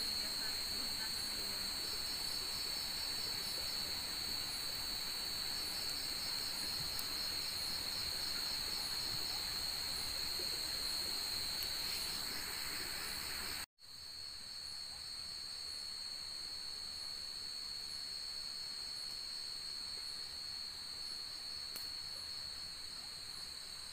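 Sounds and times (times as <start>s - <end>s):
night insects chirring: 0.0s - 23.9s.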